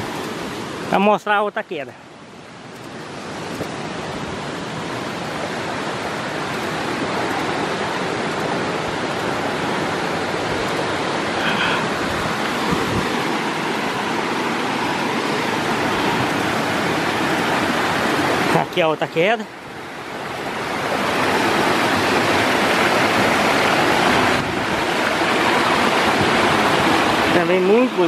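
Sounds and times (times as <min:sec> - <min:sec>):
small waterfall rushing: 0:00.0 - 0:28.0.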